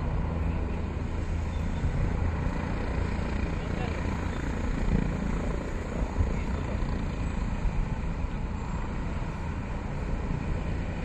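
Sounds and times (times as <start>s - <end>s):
helicopter turbine and rotor: 0.0s - 11.0s.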